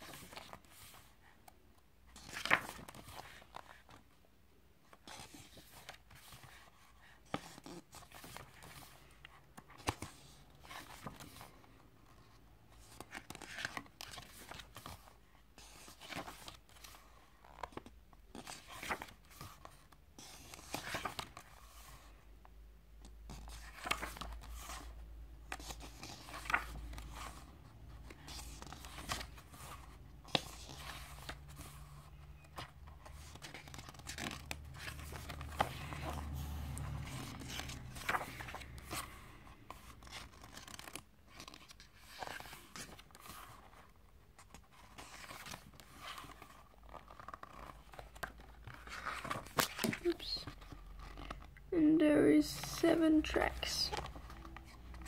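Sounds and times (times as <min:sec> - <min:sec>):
book pages turning: 0:00.0 - 0:04.1, 0:04.8 - 0:22.2, 0:23.0 - 0:51.6, 0:52.6 - 0:55.0.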